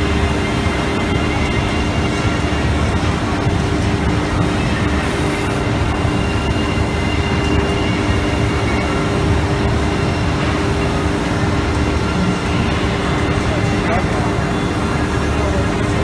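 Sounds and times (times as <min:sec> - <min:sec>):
dust collector blower: 0:00.0 - 0:16.0.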